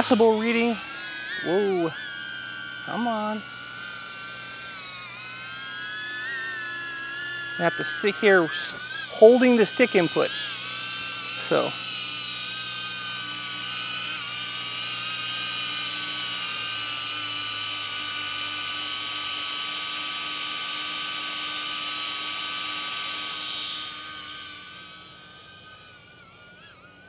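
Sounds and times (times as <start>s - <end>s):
drone propeller whine: 0.0s - 27.0s.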